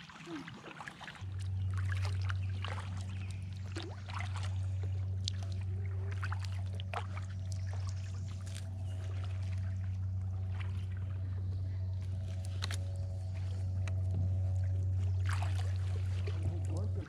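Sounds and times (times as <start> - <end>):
steady low hum: 0.0 - 17.0
water trickling and dripping: 0.0 - 17.0.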